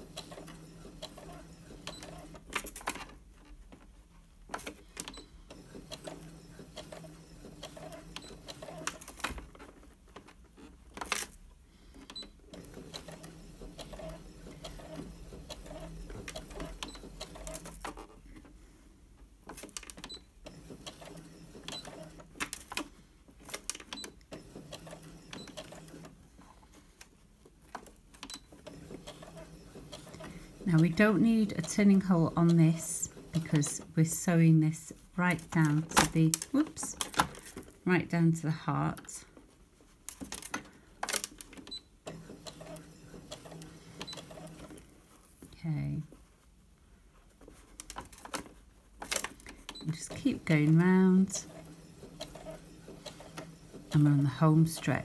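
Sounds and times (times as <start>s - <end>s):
sewing machine stitching: 0.0s - 3.5s, 4.5s - 18.2s, 19.4s - 26.2s, 27.6s - 39.1s, 40.1s - 45.0s, 47.8s - 55.0s.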